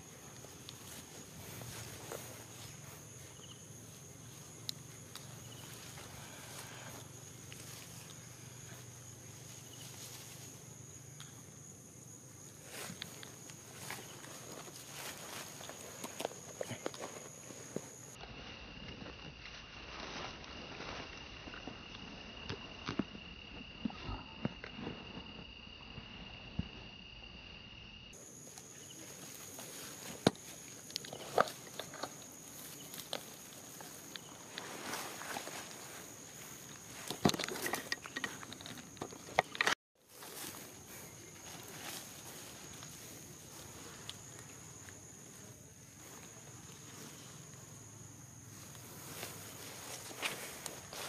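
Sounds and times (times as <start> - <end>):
rustling dry leaves and twigs: 0.0 - 11.7, 12.4 - 22.0, 28.2 - 51.0
insects droning: 0.0 - 51.0.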